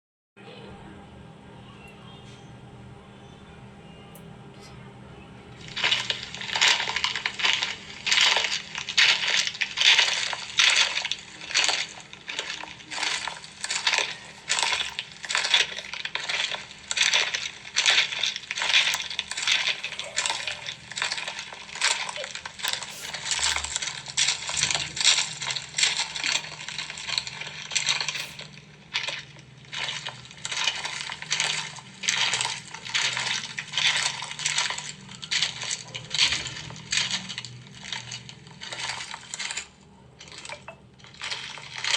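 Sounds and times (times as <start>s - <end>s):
chalk crunching: 5.6s - 41.9s.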